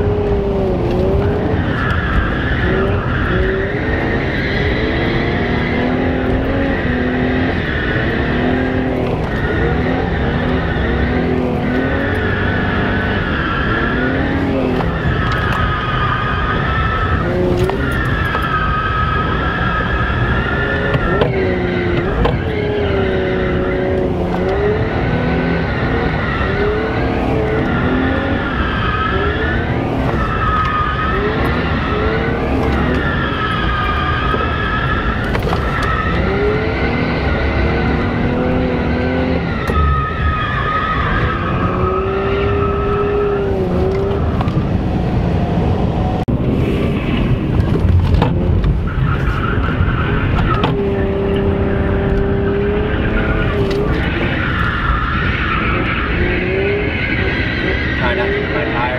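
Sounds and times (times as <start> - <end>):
car engine revving hard: 0.0 - 15.8, 16.7 - 58.9
tyres squealing: 1.0 - 44.6, 48.8 - 58.9.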